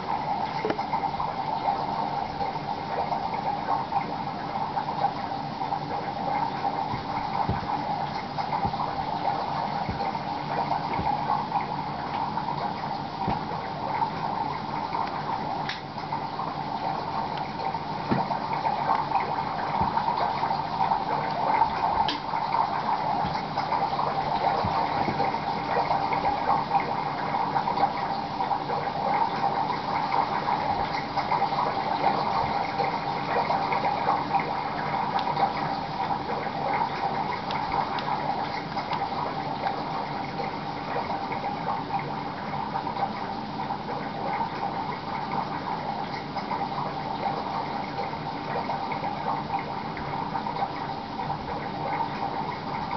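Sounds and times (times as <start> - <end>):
water bubbling and trickling: 0.0 - 52.9.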